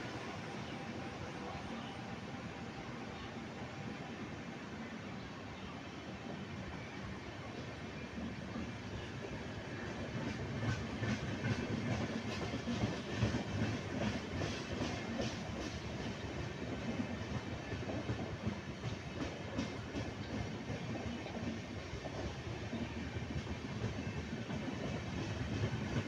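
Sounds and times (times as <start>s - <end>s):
train coaches rumbling past: 0.0s - 26.0s.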